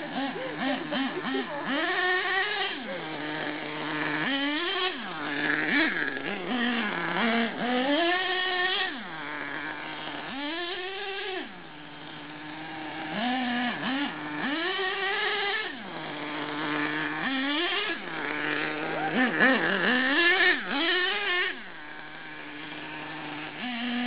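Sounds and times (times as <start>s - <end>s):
toy truck engine revving: 0.0s - 24.0s.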